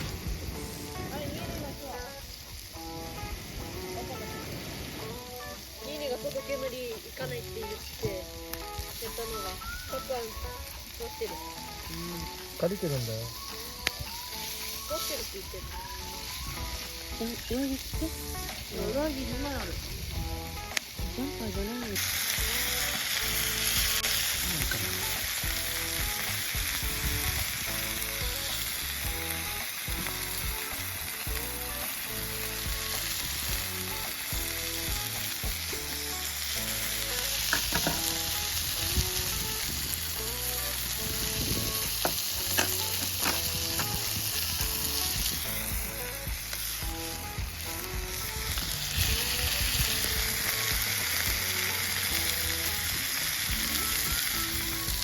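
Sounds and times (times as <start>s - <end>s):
food sizzling in frying: 0.0s - 55.0s
light background music: 0.0s - 55.0s.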